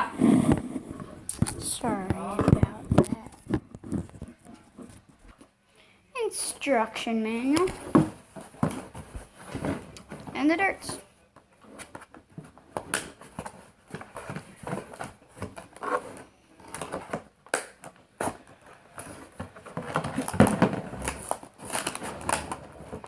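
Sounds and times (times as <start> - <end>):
plastic and cardboard rustling: 0.0 - 5.5, 6.6 - 23.0.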